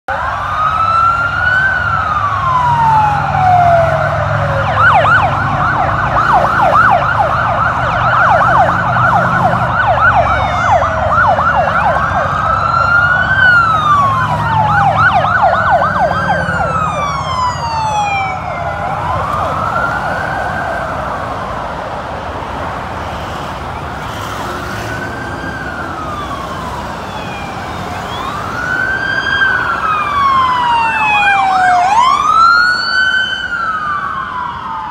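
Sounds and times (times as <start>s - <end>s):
siren fast yelp: 0.1s - 21.0s, 24.4s - 34.9s
low rumble of vehicle engines: 0.1s - 34.9s
sirens wailing: 0.1s - 34.9s.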